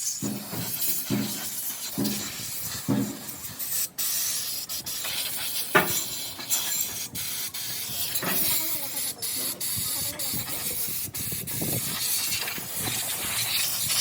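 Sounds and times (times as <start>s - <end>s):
pressure washer jet hissing: 0.0s - 14.0s.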